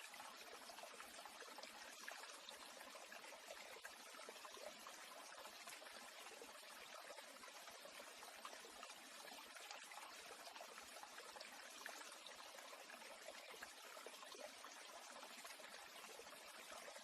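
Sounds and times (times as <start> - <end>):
faint trickling water: 0.0 - 17.0.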